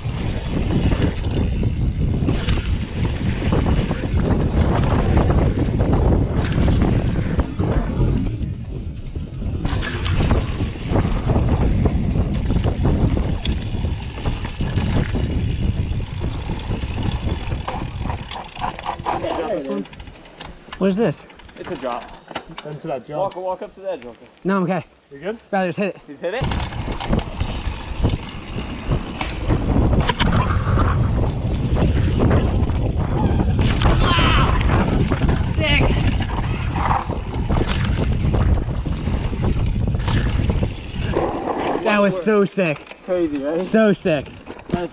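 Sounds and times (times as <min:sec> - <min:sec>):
wind buffeting microphone: 0:00.0 - 0:20.7, 0:26.4 - 0:44.9
mountain bike rattling on trail: 0:00.0 - 0:24.7, 0:25.8 - 0:44.9.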